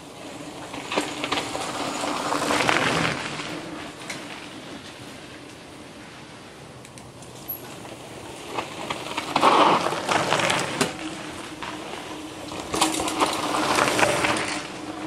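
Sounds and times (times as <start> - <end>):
bikes rattling and clicking: 0.0 - 15.0.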